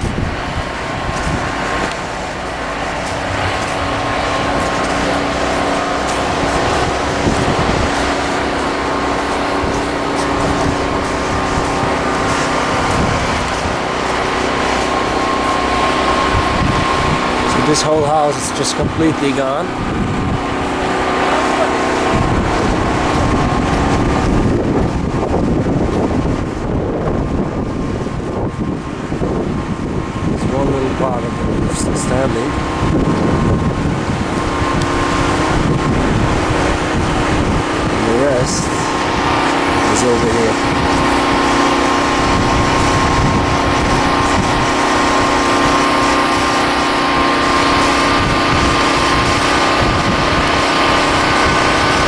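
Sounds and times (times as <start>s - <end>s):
engine humming: 0.0s - 52.0s
low uneven rumble: 0.0s - 52.0s
wind buffeting microphone: 0.0s - 52.0s.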